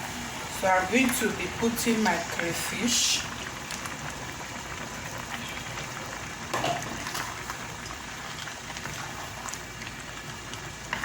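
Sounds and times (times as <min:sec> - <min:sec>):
soup simmering and bubbling: 0:00.0 - 0:11.0.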